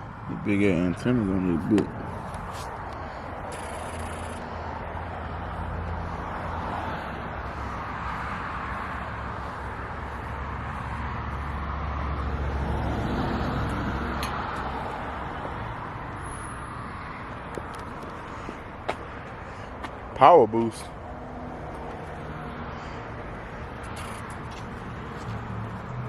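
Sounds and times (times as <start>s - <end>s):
road traffic rumbling: 0.0s - 26.0s.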